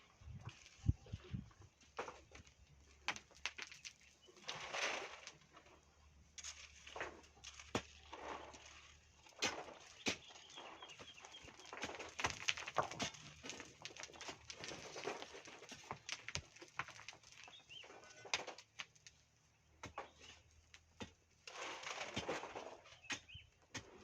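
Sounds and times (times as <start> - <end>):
knocks and scrapes: 0.1 - 19.2, 19.8 - 24.0.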